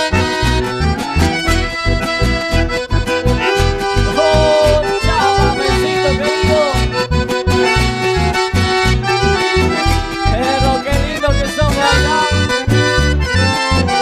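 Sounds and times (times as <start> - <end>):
accordion band music: 0.0 - 14.0.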